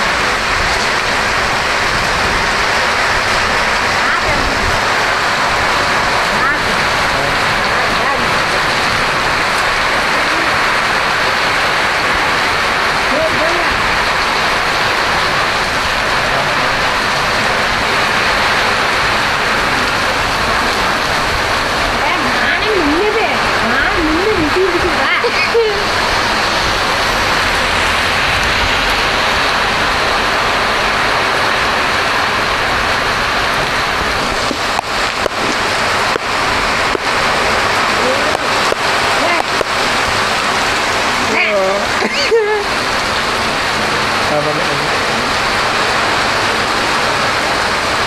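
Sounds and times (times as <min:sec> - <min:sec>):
torrential rain on wet road: 0:00.0 - 0:48.0.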